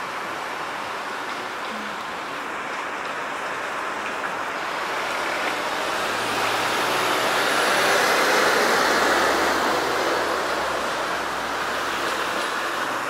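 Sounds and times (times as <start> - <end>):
street traffic: 0.0 - 13.0
bus driving past: 1.5 - 13.0.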